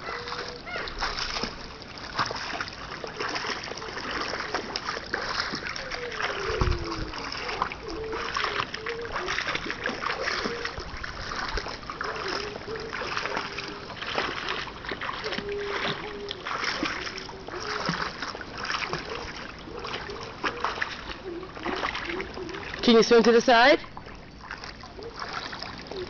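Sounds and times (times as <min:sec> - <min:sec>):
child splashing water: 0:00.0 - 0:26.0.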